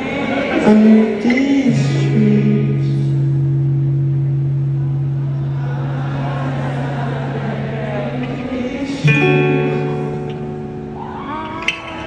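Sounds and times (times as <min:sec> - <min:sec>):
low guitar chord ringing: 0:01.6 - 0:12.0.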